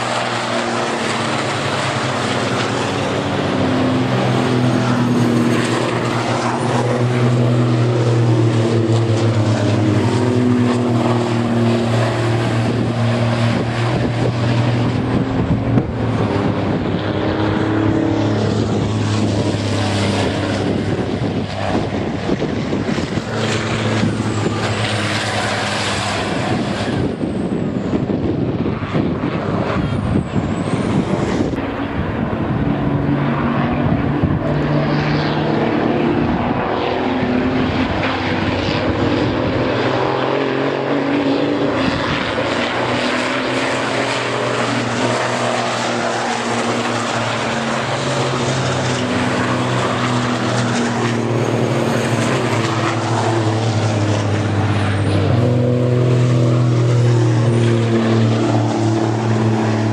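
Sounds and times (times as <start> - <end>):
racing truck engines running hard: 0.0 - 59.9.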